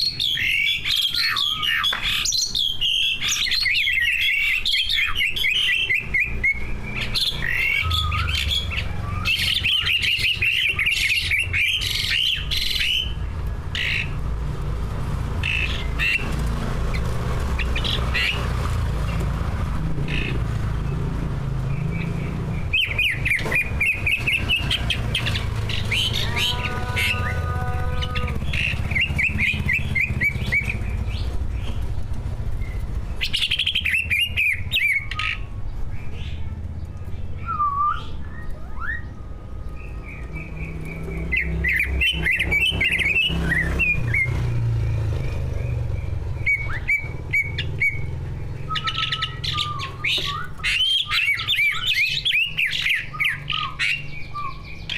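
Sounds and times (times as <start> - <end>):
bird trilling and whistling: 0.0 - 14.2, 15.4 - 18.6, 21.7 - 31.8, 32.6 - 36.4, 37.3 - 54.9.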